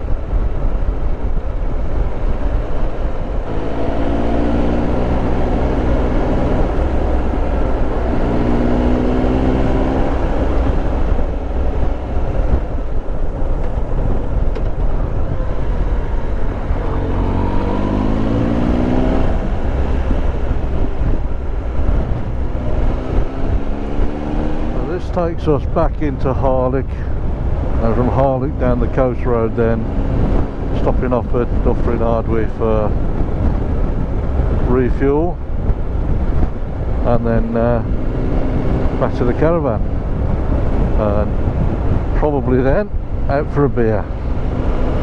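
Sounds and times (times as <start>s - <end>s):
wind and road noise: 0.0s - 45.0s
motorcycle engine accelerating: 0.1s - 26.5s, 27.4s - 45.0s.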